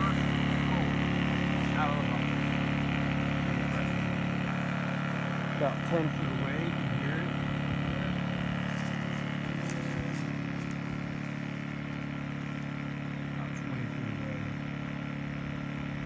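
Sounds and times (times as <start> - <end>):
generator engine hum: 0.0 - 16.0.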